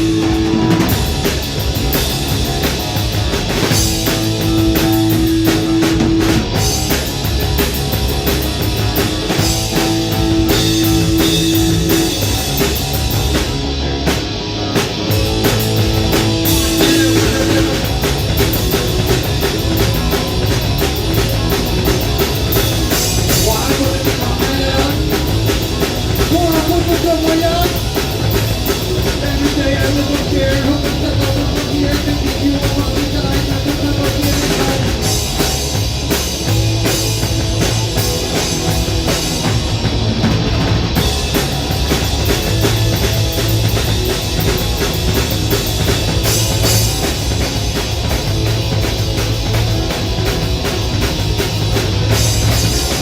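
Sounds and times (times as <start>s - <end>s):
drum kit beat: 0.0s - 53.0s
electric guitars: 0.0s - 53.0s
rock band playing live: 0.0s - 53.0s.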